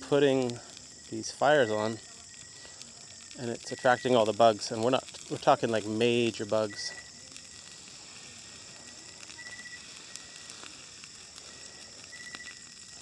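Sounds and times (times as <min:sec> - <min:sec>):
chorus of night insects: 0:00.0 - 0:13.0.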